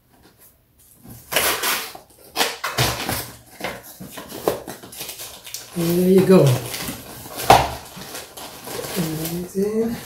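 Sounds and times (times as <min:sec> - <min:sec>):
cardboard rustling and scraping: 0:00.0 - 0:10.0.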